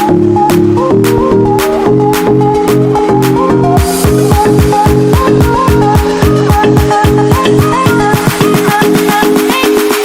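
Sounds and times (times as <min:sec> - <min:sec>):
electronic music with fast beat: 0:00.0 - 0:10.0.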